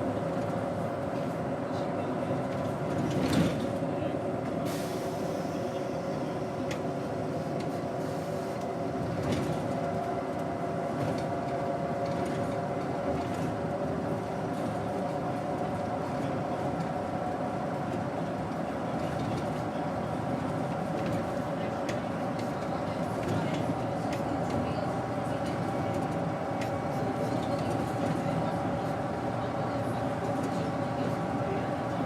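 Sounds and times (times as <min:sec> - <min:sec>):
bus engine running: 0:00.0 - 0:32.0
road rumble: 0:00.0 - 0:32.0.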